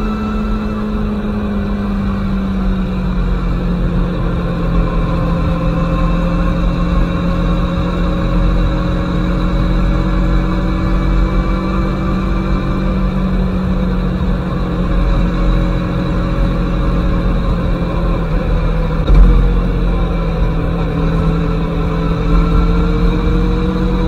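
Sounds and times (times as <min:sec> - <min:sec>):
low wind rumble: 0:00.0 - 0:24.0
motorcycle engine running: 0:00.0 - 0:24.0.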